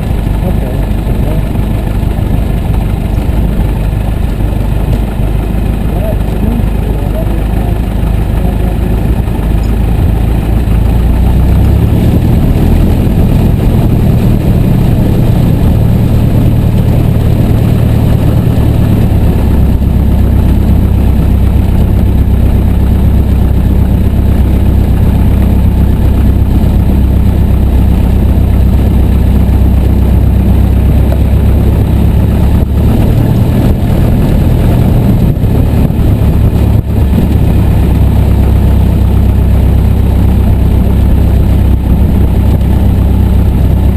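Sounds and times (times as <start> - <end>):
small aircraft engine running: 0.0 - 43.9.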